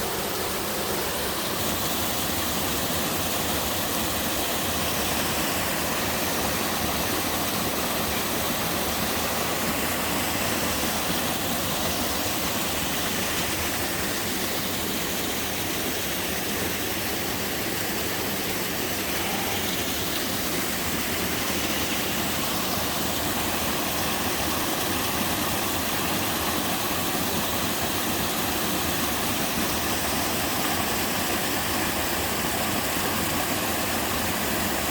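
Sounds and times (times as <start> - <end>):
waterfall roaring: 0.0 - 34.9.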